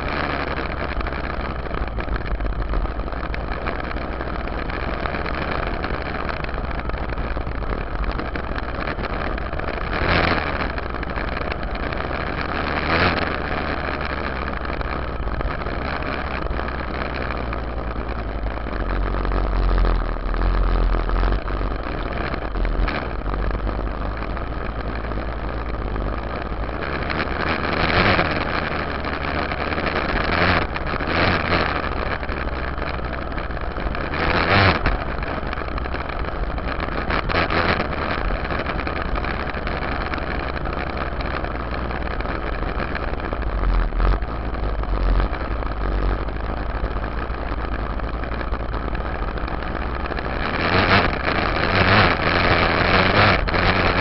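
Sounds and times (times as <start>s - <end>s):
dirt bike engine running: 0.0s - 54.0s
tyres on gravel track: 0.0s - 54.0s.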